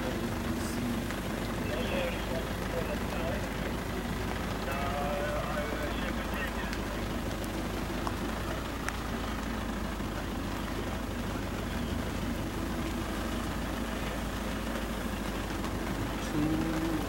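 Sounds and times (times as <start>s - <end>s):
rain hiss: 0.0s - 17.0s
vehicle engine low rumble: 0.0s - 17.0s.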